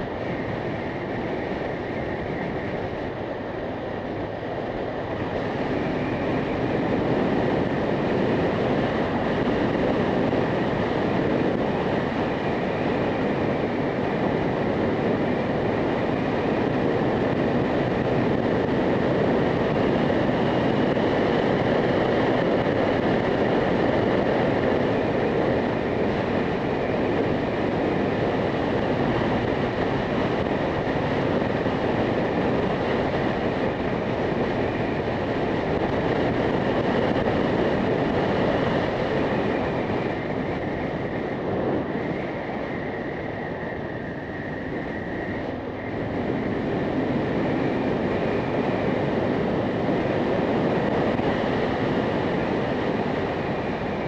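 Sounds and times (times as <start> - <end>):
faint steady whine: 0.0 - 54.0
wind and road noise: 0.0 - 54.0.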